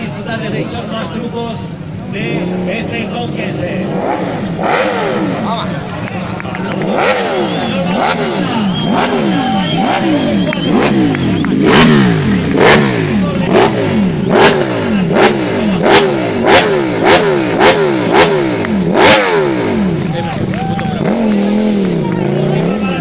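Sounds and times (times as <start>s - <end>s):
motorcycle engine revving: 1.8s - 23.0s
exhaust crack: 2.7s - 23.0s.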